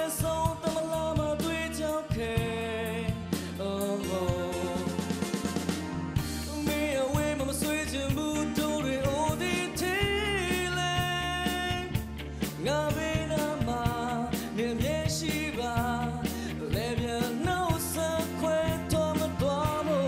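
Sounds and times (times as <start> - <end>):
man singing into microphone: 0.0 - 5.5, 6.4 - 20.0
live band with drums: 0.0 - 20.0.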